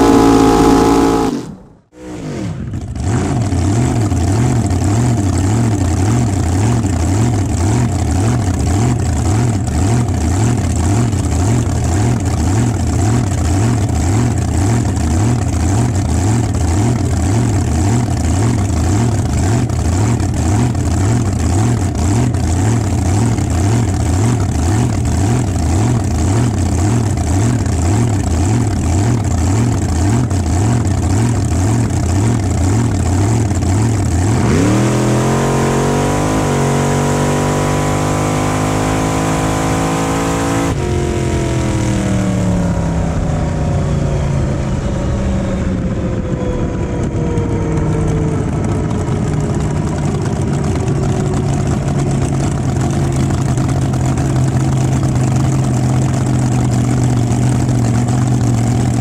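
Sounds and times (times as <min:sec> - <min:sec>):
dragster engine revving high: 0:00.0 - 0:59.0
engine idling with a lope: 0:02.6 - 0:34.9, 0:40.7 - 0:59.0.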